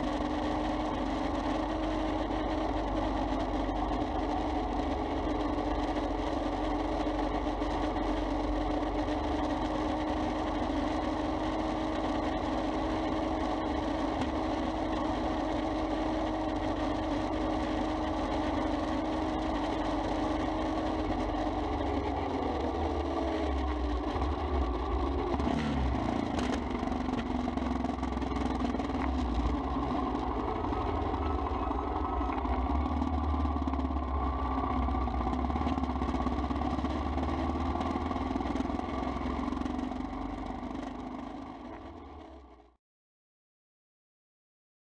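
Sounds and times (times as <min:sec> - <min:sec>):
motorcycle engine running: 0:00.0 - 0:42.8.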